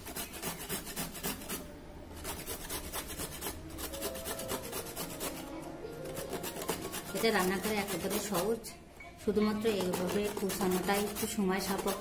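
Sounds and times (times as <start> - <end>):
carrot grating on metal grater: 0.0 - 8.7, 9.5 - 12.0.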